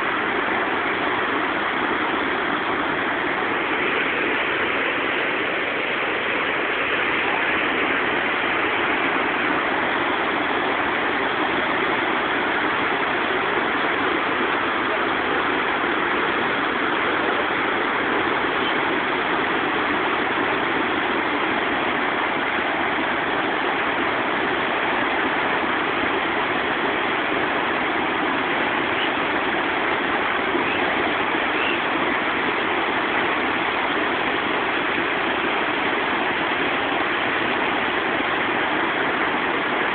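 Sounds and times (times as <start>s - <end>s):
water rushing over rapids: 0.0s - 39.9s.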